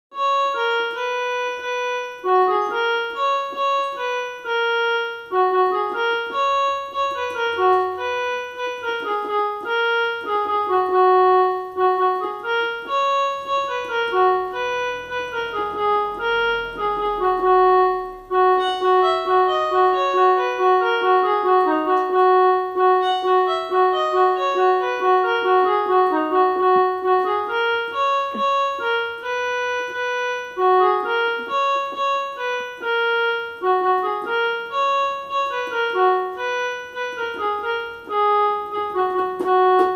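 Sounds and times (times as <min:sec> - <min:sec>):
electronic keyboard melody: 0:00.1 - 0:39.9.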